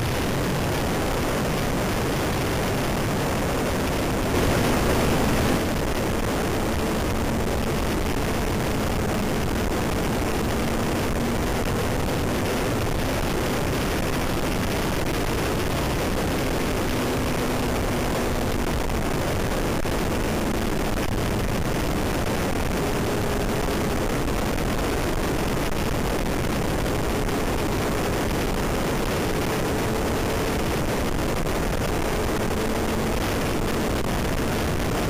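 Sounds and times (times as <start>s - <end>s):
wind rush on camera: 0.0s - 35.0s.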